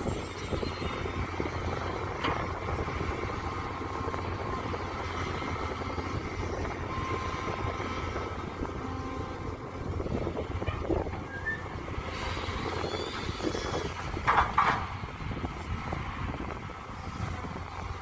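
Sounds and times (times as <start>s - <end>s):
excavator engine humming: 0.0s - 18.0s.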